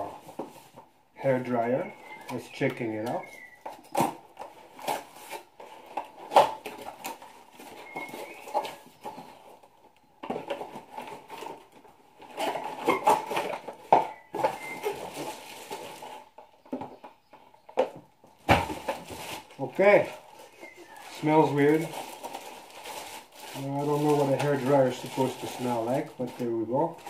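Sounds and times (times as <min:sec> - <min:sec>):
cardboard and plastic rustling: 0:00.0 - 0:27.0.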